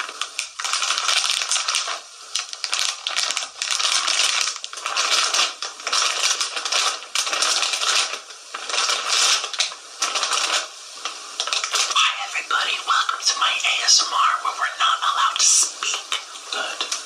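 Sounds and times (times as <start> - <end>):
close crinkling and crackling: 0.0 - 17.0.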